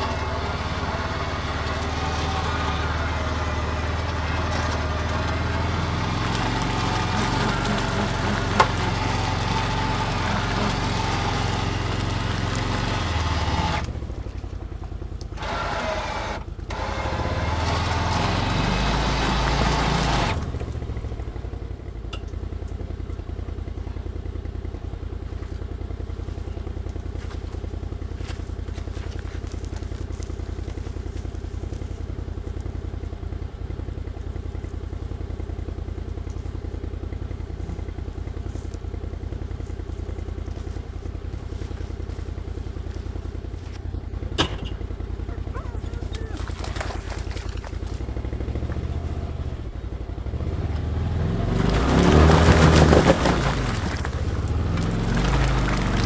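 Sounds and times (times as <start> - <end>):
utility vehicle engine running: 0.0 - 56.0.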